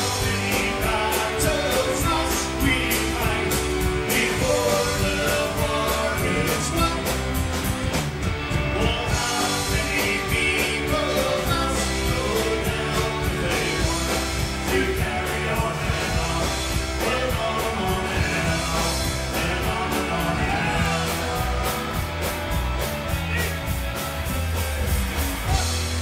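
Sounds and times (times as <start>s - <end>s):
person singing: 0.0s - 7.5s, 8.6s - 22.3s
drum kit beat: 0.0s - 26.0s
live folk-rock band playing: 0.0s - 26.0s.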